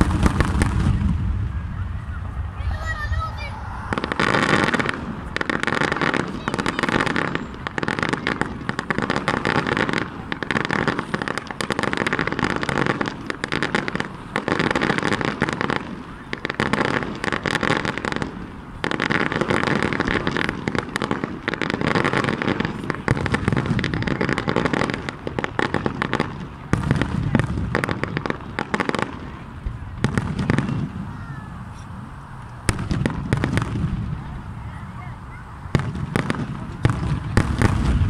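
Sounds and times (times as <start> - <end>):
deep fireworks booms: 0.0 - 31.7, 32.6 - 38.0
fireworks crackling and popping: 0.0 - 38.0.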